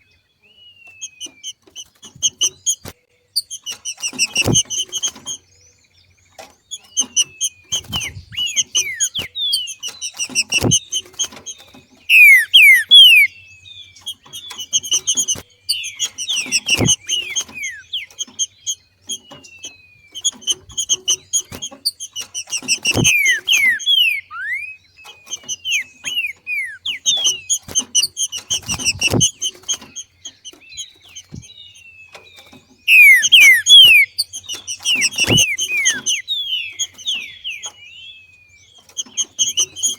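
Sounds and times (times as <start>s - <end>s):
bird chattering and whistling: 0.8s - 5.6s, 6.3s - 39.9s.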